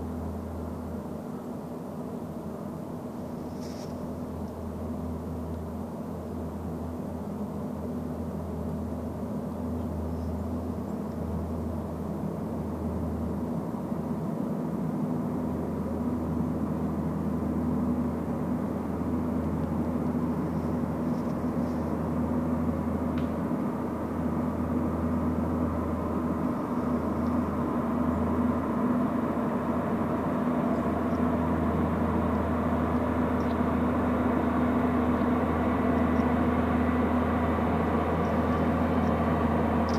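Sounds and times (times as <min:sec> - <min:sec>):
diesel train engine drone: 0:00.0 - 0:39.9.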